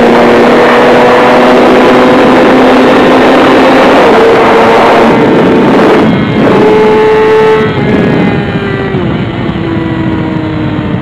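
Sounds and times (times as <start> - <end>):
motorcycle engine: 0.0 - 11.0
wind rush: 0.0 - 11.0.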